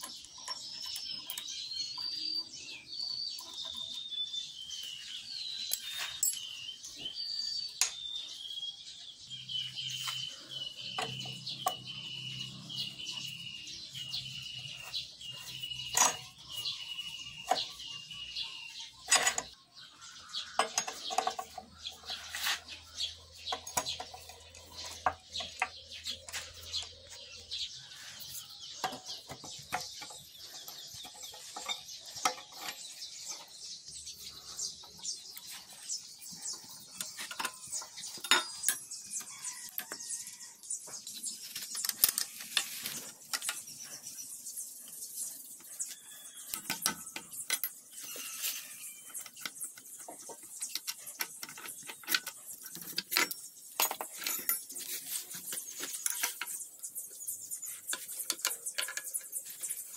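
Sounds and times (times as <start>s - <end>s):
metal tools clinking and knocking: 0.0s - 8.2s, 9.7s - 19.6s, 20.2s - 40.2s, 40.9s - 44.4s, 45.3s - 59.9s.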